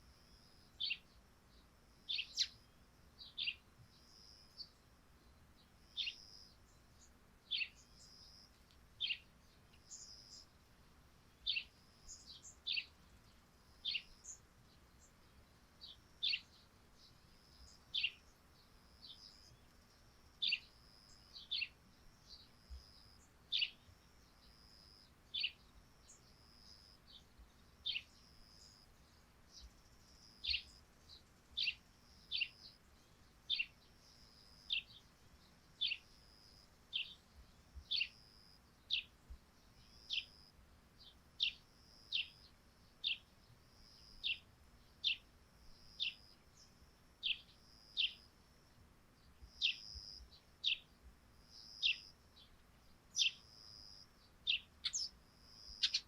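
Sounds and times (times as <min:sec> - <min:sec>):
sparrows chirping: 0:00.2 - 0:48.4, 0:49.2 - 0:56.0.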